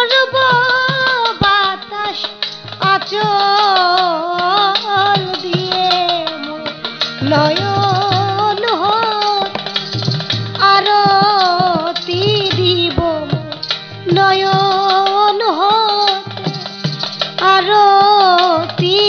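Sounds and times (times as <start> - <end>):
woman singing: 0.0 - 16.8, 17.4 - 19.0
hand drum beat: 0.0 - 19.0
harmonium chords: 0.0 - 19.0.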